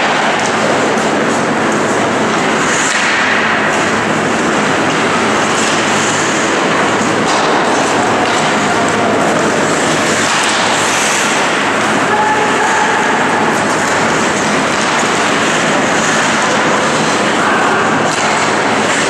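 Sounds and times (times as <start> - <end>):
low arena hum: 0.0 - 19.0
skate blades scraping on ice: 1.8 - 19.0.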